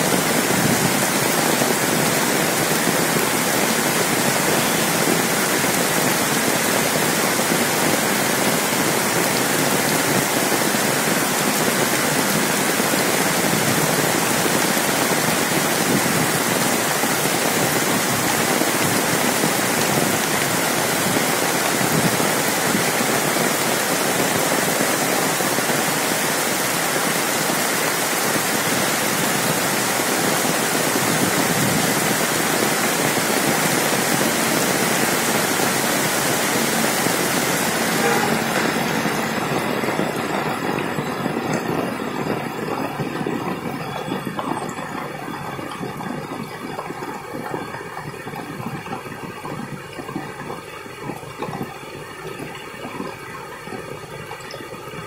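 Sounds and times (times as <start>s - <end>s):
rain on metal roofs and foliage: 0.0s - 55.0s.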